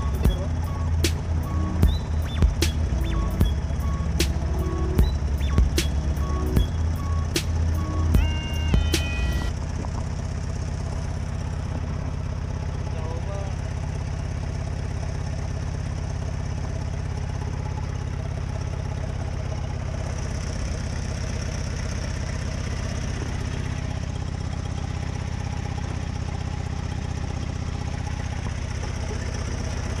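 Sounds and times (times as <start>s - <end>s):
jeep engine running at low revs: 0.0s - 30.0s.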